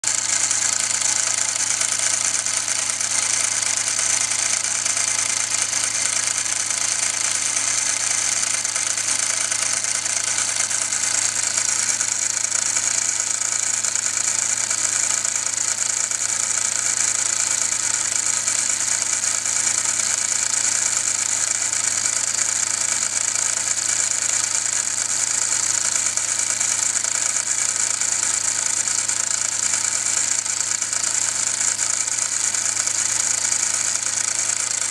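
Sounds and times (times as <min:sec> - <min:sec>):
fast mechanical chatter: 0:00.0 - 0:34.9.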